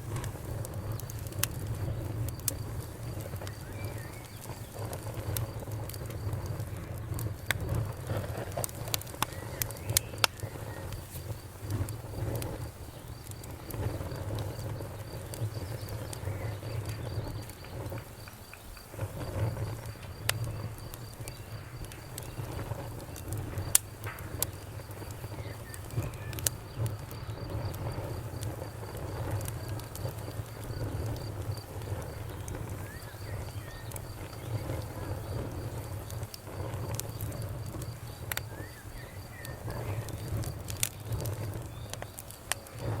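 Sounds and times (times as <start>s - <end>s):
fire popping and snapping: 0.0s - 43.0s
wood fire crackling: 0.0s - 43.0s.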